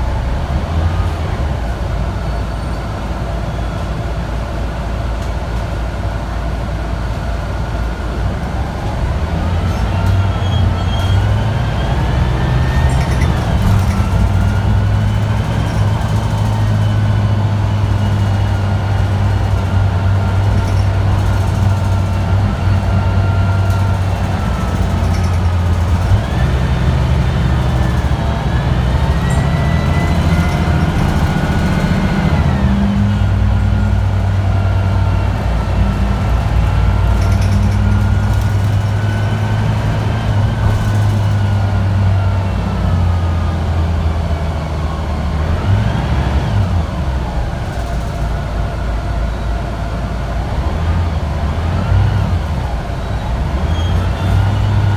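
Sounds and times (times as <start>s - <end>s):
bus diesel engine drone: 0.0s - 54.9s.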